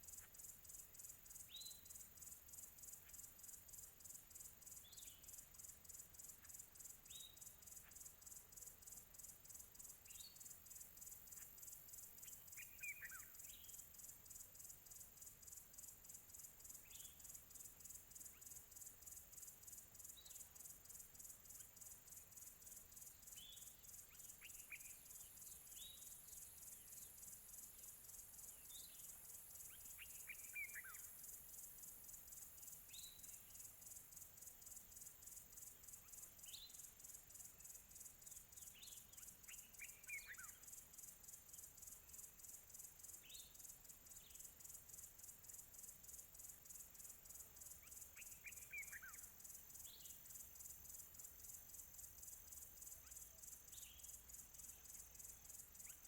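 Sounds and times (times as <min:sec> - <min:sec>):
field crickets chirping: 0:00.0 - 0:56.0.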